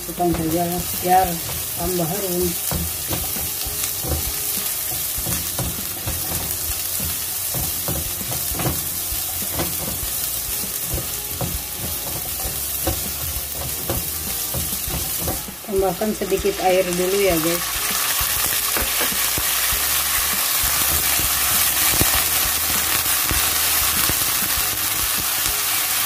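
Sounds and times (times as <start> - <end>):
aromatics sizzling in hot oil: 0.0 - 26.0
spatula scraping and knocking wok: 0.0 - 26.0.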